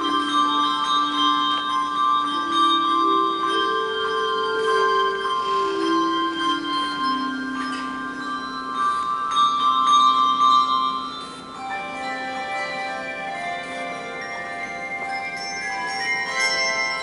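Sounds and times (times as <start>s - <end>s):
handbell choir ringing a hymn: 0.0s - 17.0s.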